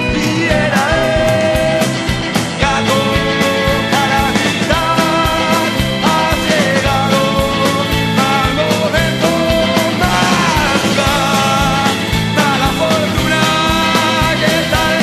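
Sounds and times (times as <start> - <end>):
drums beating: 0.0 - 15.0
rock and roll band: 0.0 - 15.0.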